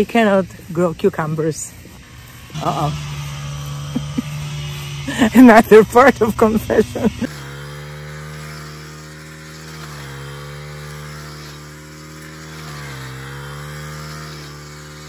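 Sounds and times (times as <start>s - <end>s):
brush cutter cutting grass: 0.0s - 15.0s.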